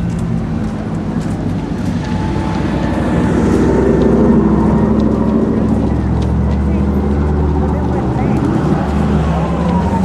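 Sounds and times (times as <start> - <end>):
fire truck engine running: 0.0 - 10.0.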